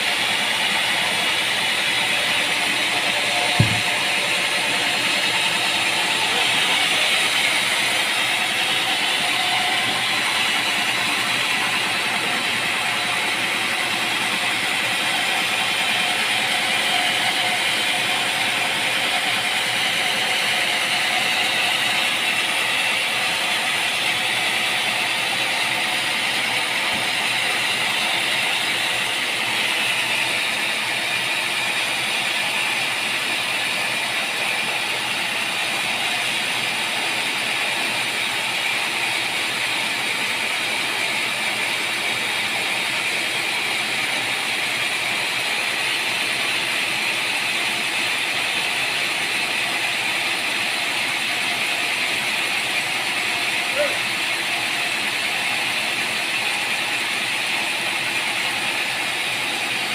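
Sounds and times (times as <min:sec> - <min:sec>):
machinery running: 0:00.0 - 0:51.6.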